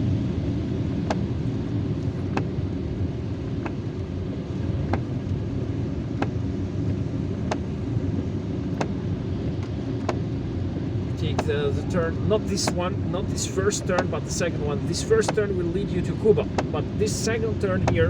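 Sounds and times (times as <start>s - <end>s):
car driving on wet road: 1.9s - 18.0s.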